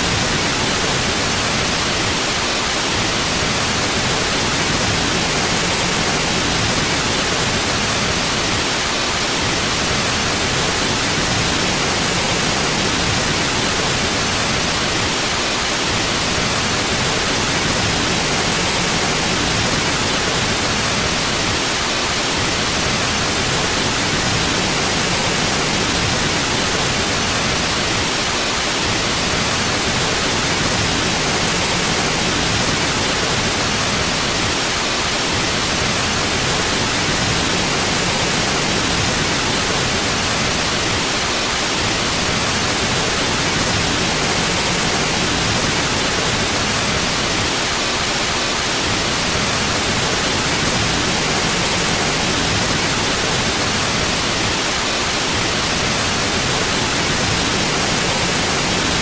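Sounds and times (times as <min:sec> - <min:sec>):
white noise: 0:00.0 - 0:59.0.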